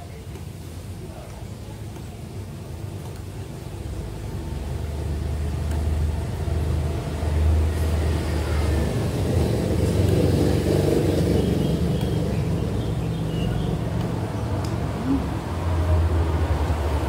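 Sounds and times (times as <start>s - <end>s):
vehicle engine rumbling: 2.5s - 17.0s.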